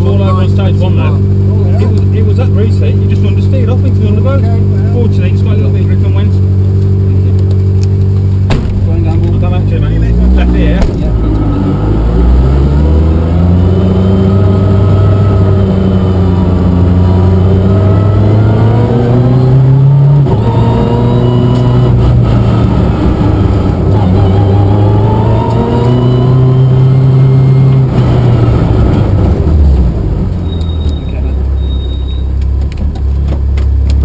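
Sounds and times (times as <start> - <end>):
car engine accelerating hard: 0.0 - 31.6.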